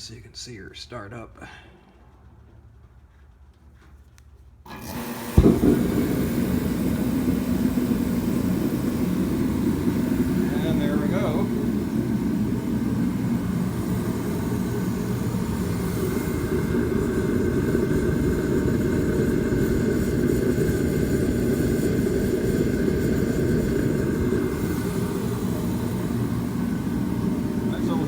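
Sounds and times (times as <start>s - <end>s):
heater fan and burner rushing: 1.8s - 28.0s
faint whine: 5.4s - 28.0s.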